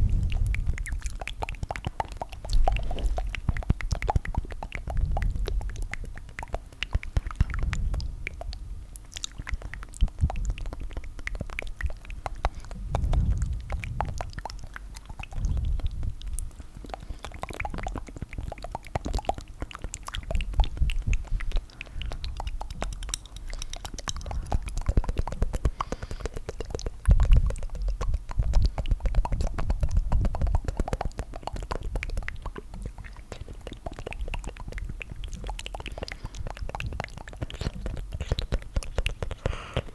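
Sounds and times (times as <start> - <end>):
wet tongue fluttering and clicks: 0.0 - 39.9.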